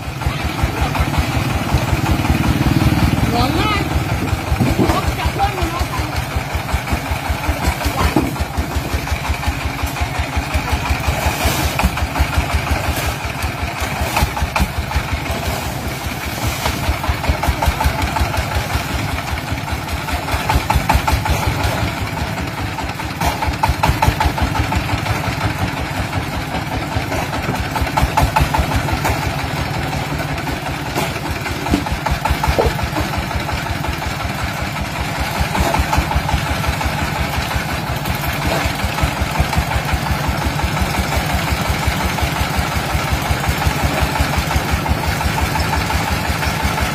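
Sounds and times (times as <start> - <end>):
single-cylinder diesel engine running: 0.0 - 46.9.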